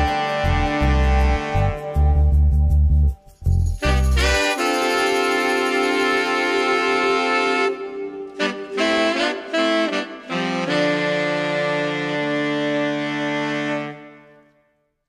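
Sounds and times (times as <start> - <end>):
instrumental music: 0.0 - 15.0.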